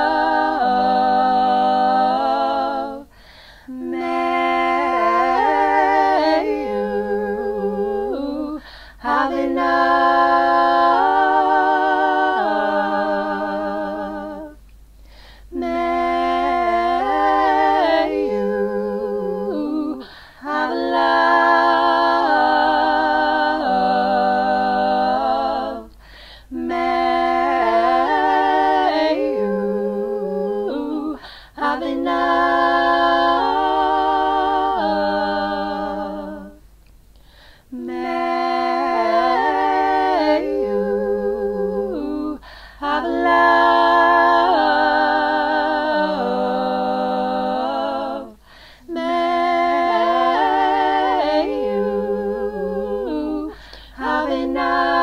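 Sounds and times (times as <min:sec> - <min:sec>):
woman singing a cappella harmony: 0:00.0 - 0:55.0.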